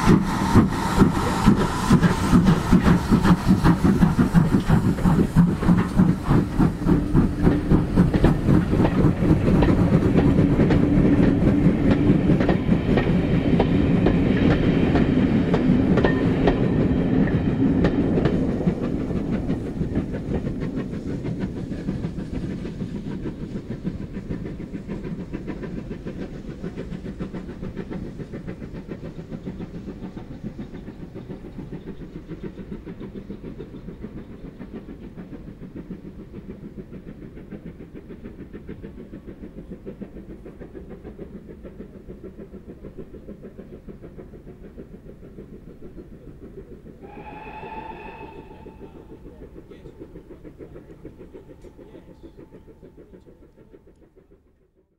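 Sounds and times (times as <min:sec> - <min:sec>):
steam locomotive exhaust beat: 0:00.0 - 0:54.9
train wheel clatter: 0:00.0 - 0:54.9.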